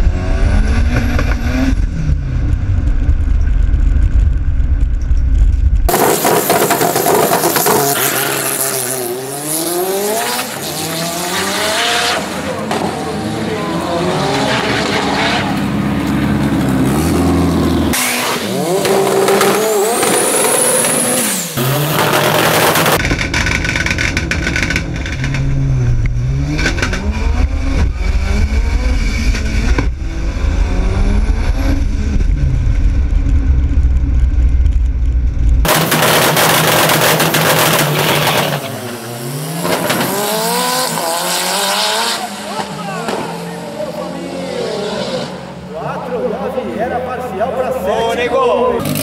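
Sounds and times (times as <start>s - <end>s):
car engine revving: 5.8s - 47.7s.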